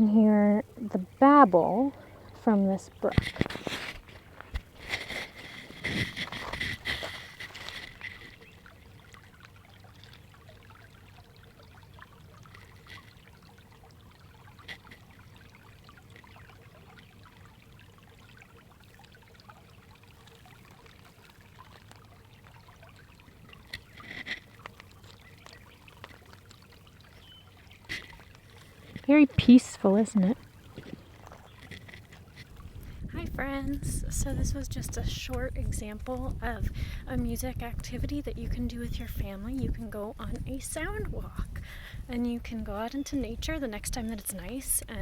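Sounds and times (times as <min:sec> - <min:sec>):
brook babbling: 0:00.0 - 0:45.0.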